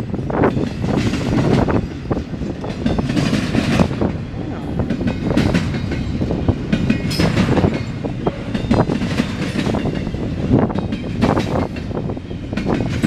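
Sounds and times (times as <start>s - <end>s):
train cars rumbling past: 0.0s - 13.0s
wheels clacking on rail joints: 0.0s - 13.0s.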